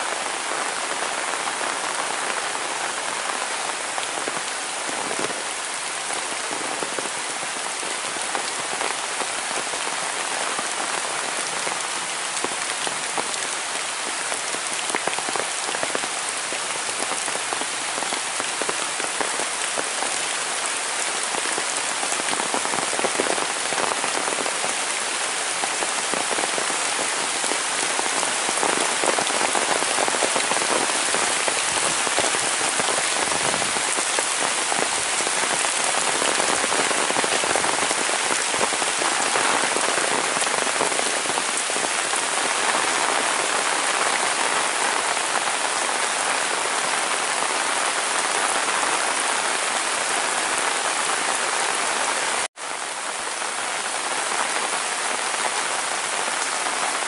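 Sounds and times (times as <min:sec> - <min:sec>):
heavy rain on leaves and pavement: 0:00.0 - 0:57.0.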